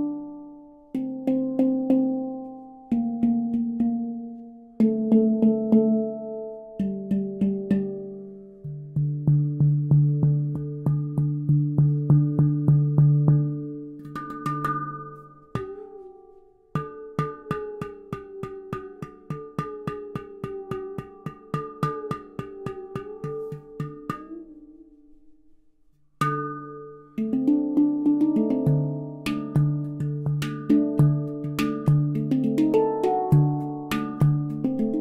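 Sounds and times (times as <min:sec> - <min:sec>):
handpan higher notes ringing: 0:00.0 - 0:25.6, 0:26.2 - 0:35.0
handpan fingertip taps: 0:00.9 - 0:25.6, 0:26.2 - 0:35.0.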